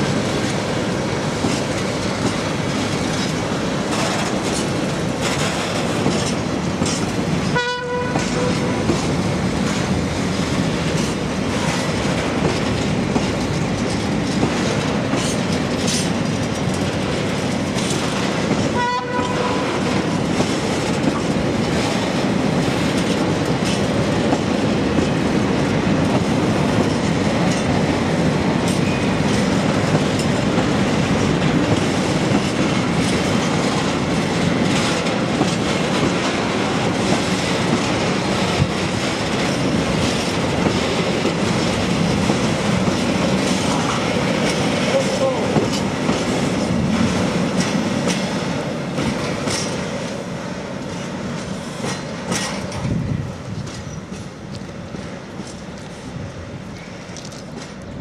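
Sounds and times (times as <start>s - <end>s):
freight train rolling past: 0.0s - 58.0s
steel wheels clattering over rails: 0.0s - 58.0s.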